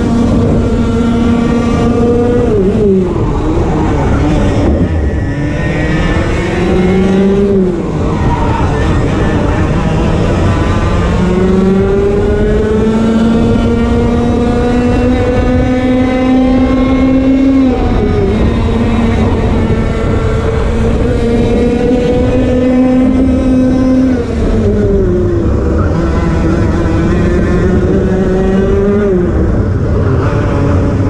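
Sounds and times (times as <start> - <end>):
racing kart engine revving: 0.0 - 31.0.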